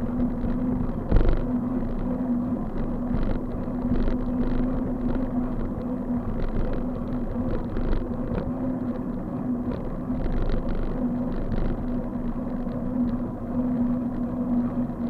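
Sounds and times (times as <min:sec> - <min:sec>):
bike hum: 0:00.0 - 0:15.0
road rumble: 0:00.0 - 0:15.0
small rattles and clicks: 0:00.0 - 0:15.0
wind: 0:00.0 - 0:15.0.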